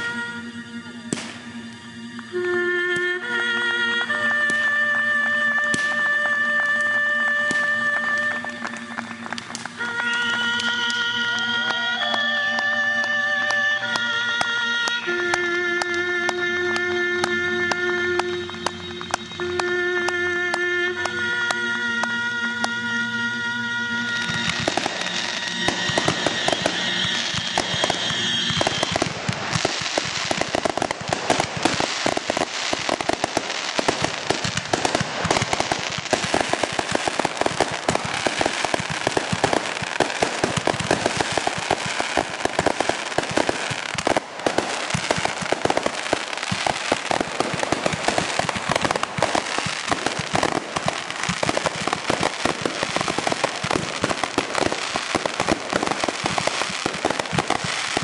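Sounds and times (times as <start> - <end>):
fireworks popping and crackling: 0.0 - 0.3, 1.0 - 58.0
high whistle: 0.0 - 58.0.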